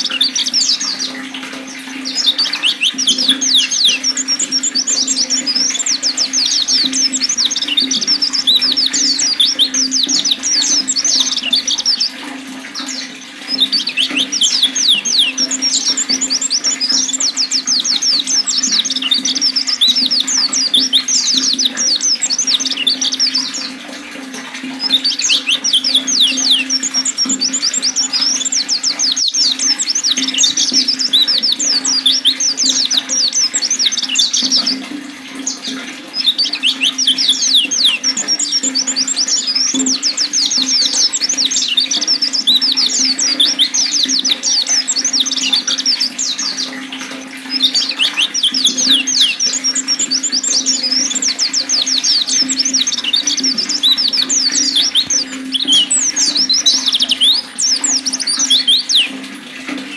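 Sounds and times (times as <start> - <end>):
bird twittering chirps: 0.0 - 59.9
flowing water: 0.0 - 59.9.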